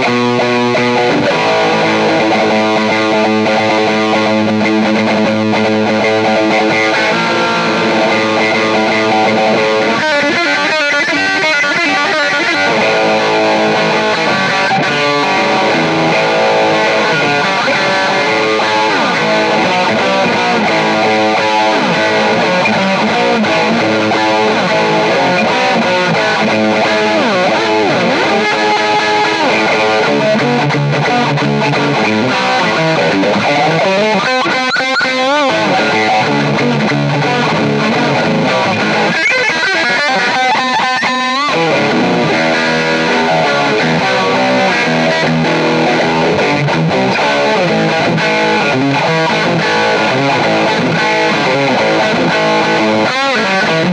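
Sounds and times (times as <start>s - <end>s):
distorted electric guitar music: 0.0s - 53.9s.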